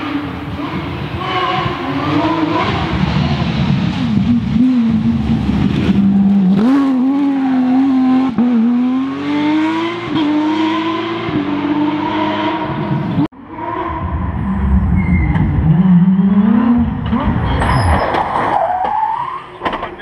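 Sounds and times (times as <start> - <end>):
rally car engine accelerating: 0.0 - 18.7.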